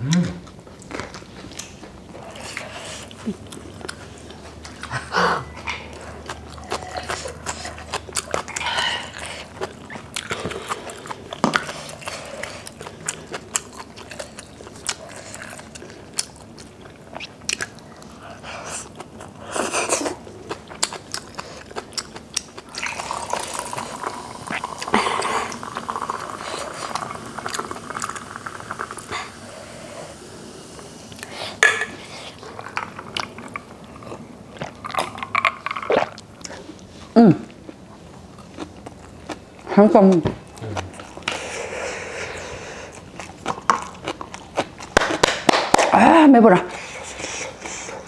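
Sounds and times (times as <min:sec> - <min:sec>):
wet chewing sounds: 0:00.1 - 0:29.3, 0:31.1 - 0:45.9.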